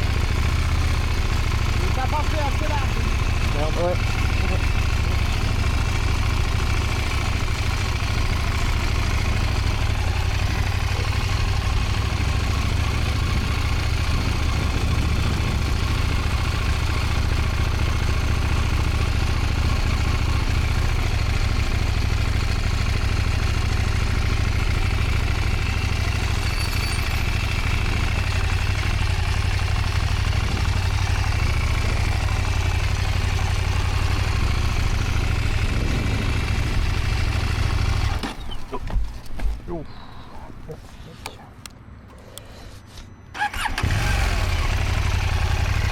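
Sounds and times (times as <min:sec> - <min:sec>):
motorcycle engine idling low: 0:00.0 - 0:38.9, 0:43.4 - 0:45.9.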